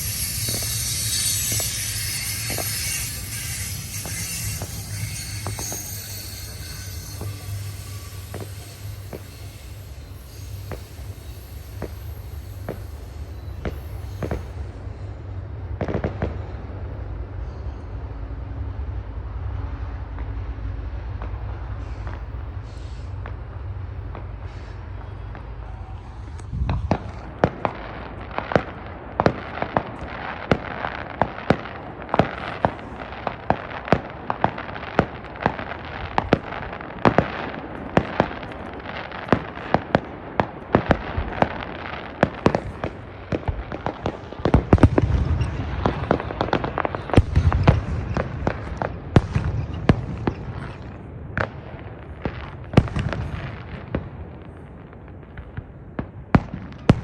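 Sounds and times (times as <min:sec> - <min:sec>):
deep fireworks booms: 0:00.0 - 0:57.0
fireworks bangs and crackles: 0:00.0 - 0:57.0.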